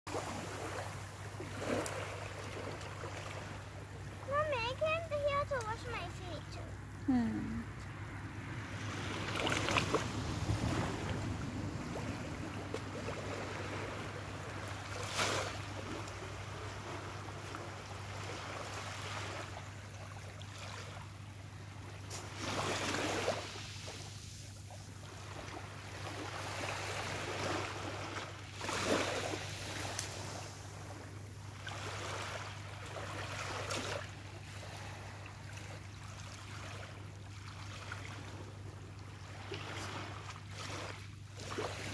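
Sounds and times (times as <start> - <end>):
small waves lapping on beach: 0.1 - 41.9.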